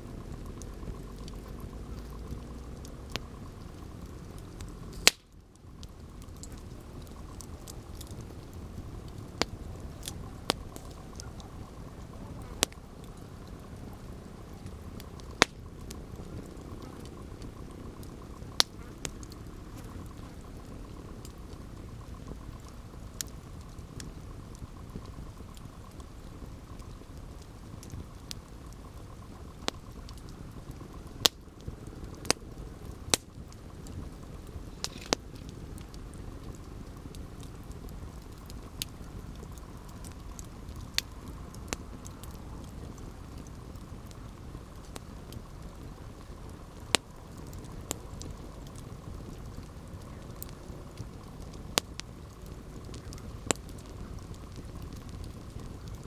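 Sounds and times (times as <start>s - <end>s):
campfire burning and crackling: 0.0s - 56.0s
sharp pops from fire: 0.0s - 56.0s.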